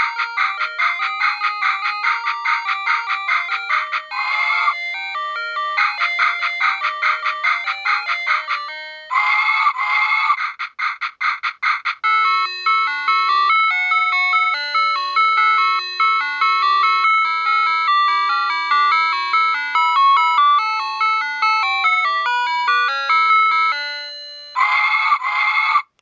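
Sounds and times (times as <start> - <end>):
bell-like electronic tune: 0.0 - 10.0, 12.0 - 24.8.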